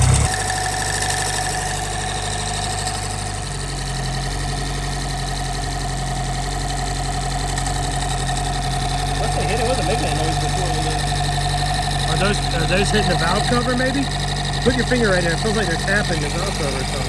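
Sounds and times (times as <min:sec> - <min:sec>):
car engine idling: 0:00.0 - 0:17.0
light engine tapping: 0:00.0 - 0:17.0.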